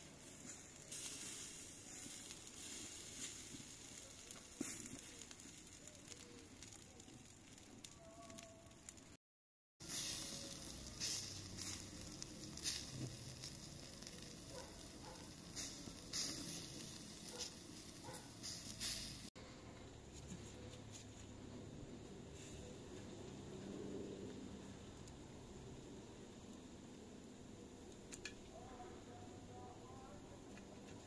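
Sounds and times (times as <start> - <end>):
coals crackling and popping: 0.0 - 9.2, 9.8 - 19.4, 20.0 - 31.0
kebabs sizzling over charcoal: 0.0 - 9.2, 9.8 - 31.0.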